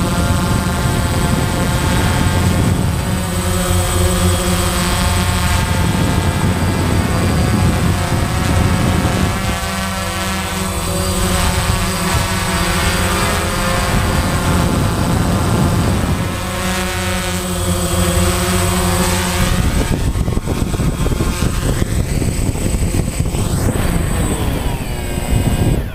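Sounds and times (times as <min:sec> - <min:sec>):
drone propellers whining: 0:00.0 - 0:25.9.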